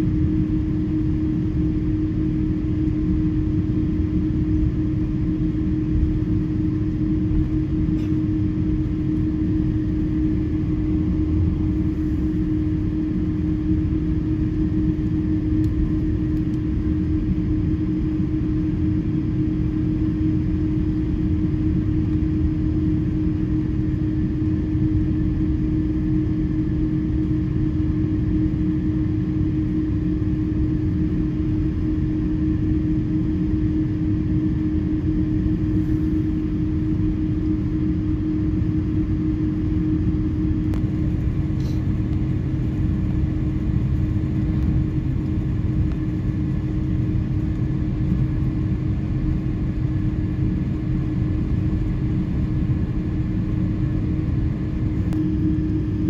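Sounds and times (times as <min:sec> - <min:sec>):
constant droning tone: 0:00.0 - 0:56.0
deep cabin rumble: 0:00.0 - 0:56.0
jet engines running at low power: 0:00.0 - 0:56.0.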